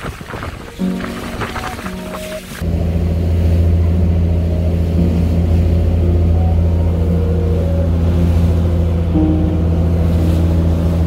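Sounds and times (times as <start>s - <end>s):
boat engine droning: 0.0s - 11.0s
water rushing along hull: 0.0s - 11.0s.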